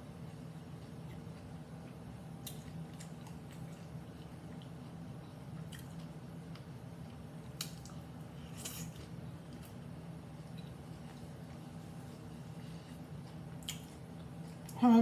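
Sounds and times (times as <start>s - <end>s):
chewing crunchy taco: 0.0s - 14.8s.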